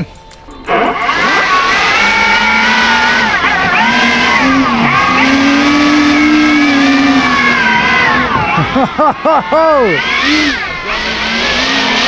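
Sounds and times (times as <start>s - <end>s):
model aircraft electric motors running: 0.7s - 12.0s.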